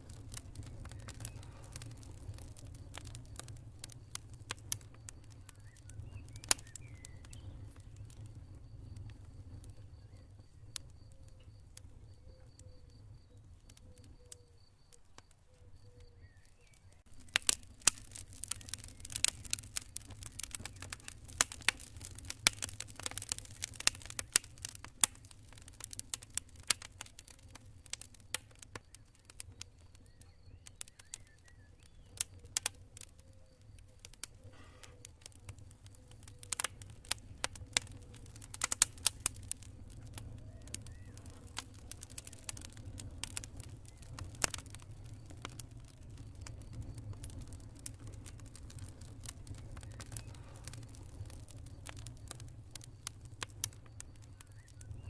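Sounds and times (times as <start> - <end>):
campfire rumble: 0.0 - 55.0
fire crackling and popping: 0.0 - 55.0.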